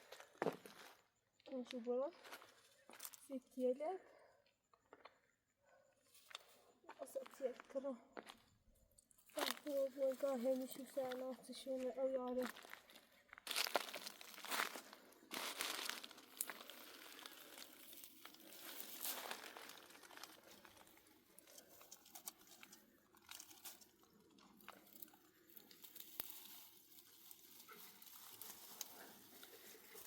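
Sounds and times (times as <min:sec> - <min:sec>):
faint rustling and crinkling: 0:00.0 - 0:30.0.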